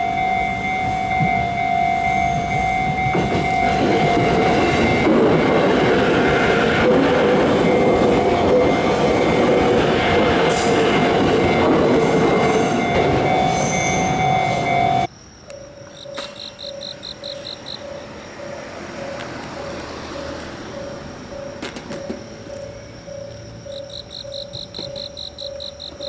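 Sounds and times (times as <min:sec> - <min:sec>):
electric train rail rumble: 0:00.0 - 0:26.0
high-pitched train tones: 0:00.0 - 0:26.0.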